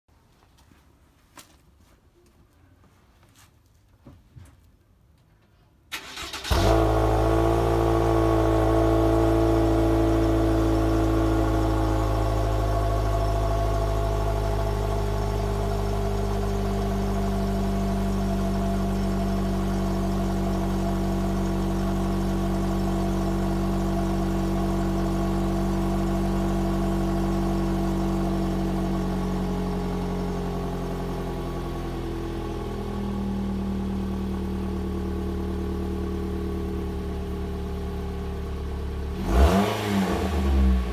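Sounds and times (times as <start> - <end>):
car engine starting and idling: 5.9 - 40.9.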